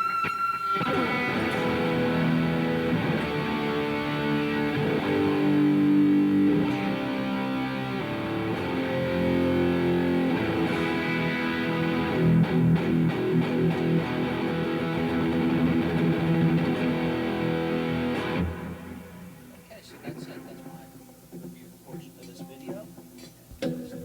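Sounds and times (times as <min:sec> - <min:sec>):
distorted electric guitar chords: 0:00.0 - 0:21.6.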